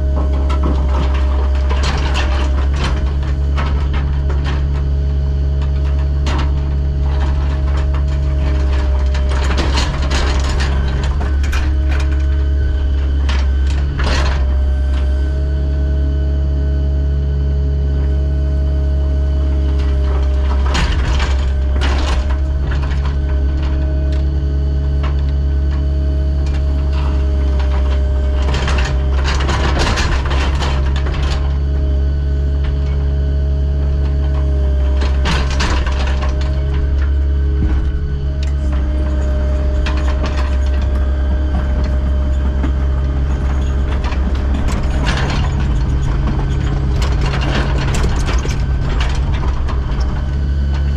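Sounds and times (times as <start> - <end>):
diesel engine running: 0.0 - 50.9
rattling and clanking: 0.0 - 50.9.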